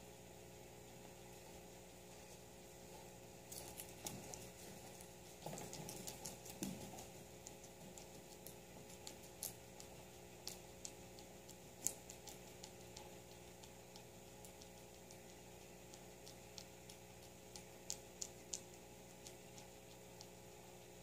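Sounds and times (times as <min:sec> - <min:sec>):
guinea pig chewing: 0:00.0 - 0:21.0.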